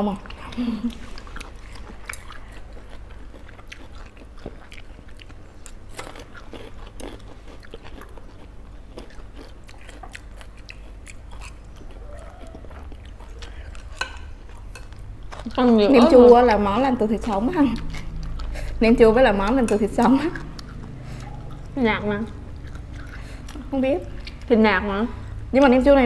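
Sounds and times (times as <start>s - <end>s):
low steady hum: 0.0s - 26.0s
chewing and biting salad: 0.2s - 25.6s.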